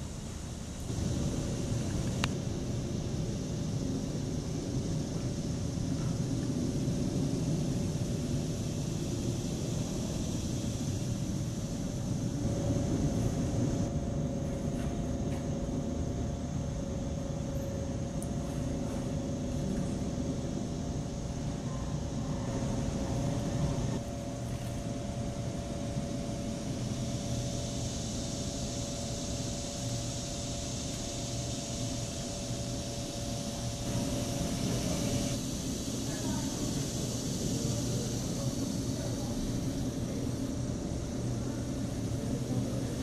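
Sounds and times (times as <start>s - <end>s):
low rumble with mechanical hum: 0.0s - 43.0s.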